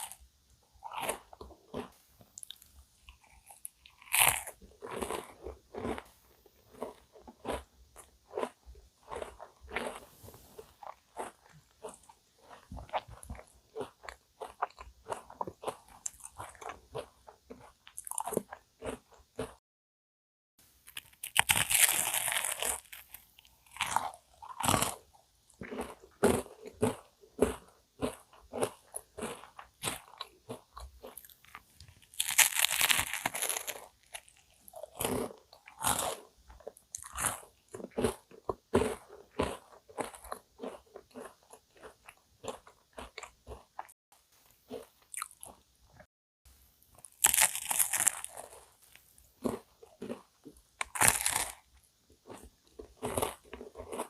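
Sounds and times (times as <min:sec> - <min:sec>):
crisp pastry crunching: 0:00.8 - 0:06.1, 0:06.7 - 0:19.5, 0:20.8 - 0:44.0, 0:47.0 - 0:54.0
soft chewing: 0:00.8 - 0:19.6, 0:20.9 - 0:46.1, 0:46.9 - 0:54.0.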